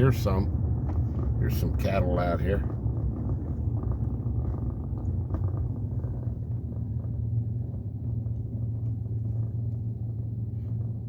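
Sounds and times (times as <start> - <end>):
vehicle engine and road hum: 0.0 - 11.0.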